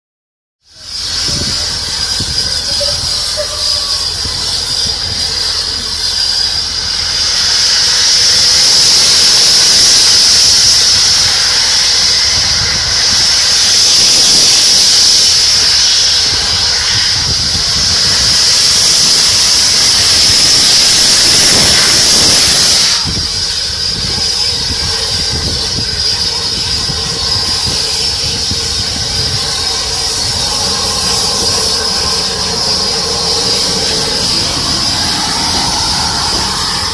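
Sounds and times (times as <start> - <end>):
steam locomotive exhaust beats: 0.6 - 36.9
steam hissing from cylinder cocks: 0.7 - 36.9.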